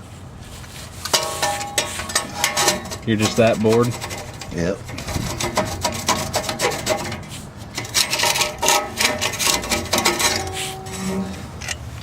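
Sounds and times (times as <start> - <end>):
hand tool scraping metal: 1.0 - 12.0.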